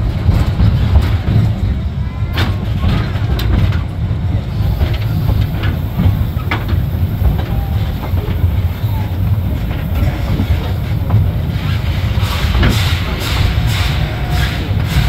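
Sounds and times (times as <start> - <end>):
train cars rumbling: 0.0 - 15.0
wheels clacking over rails: 0.0 - 15.0.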